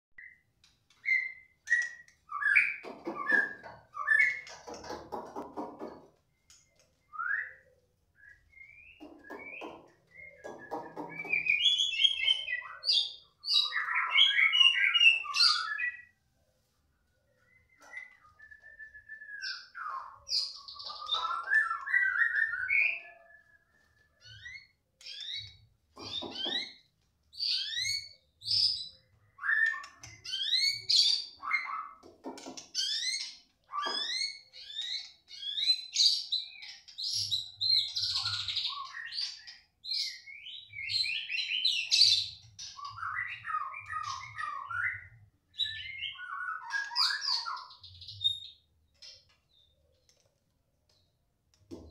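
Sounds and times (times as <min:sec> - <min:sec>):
songbird whistles and chatters: 0:01.0 - 0:05.0, 0:05.8 - 0:16.2, 0:17.3 - 0:49.6.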